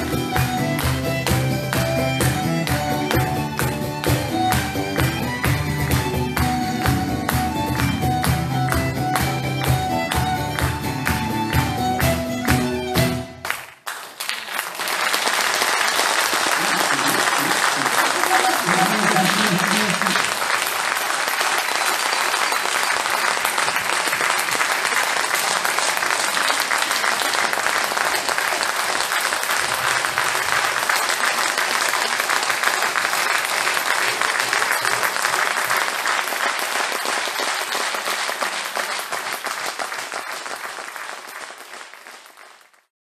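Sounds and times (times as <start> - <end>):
audience applauding: 0.0 - 42.9.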